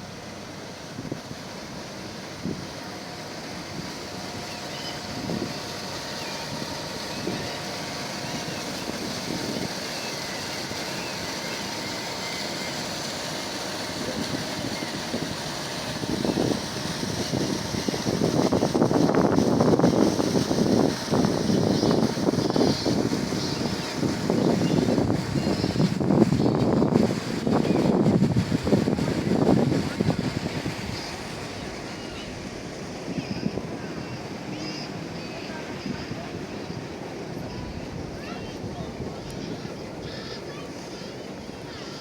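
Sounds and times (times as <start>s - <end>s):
wind buffeting microphone: 0.0s - 41.7s
outdoor noise: 0.0s - 42.0s.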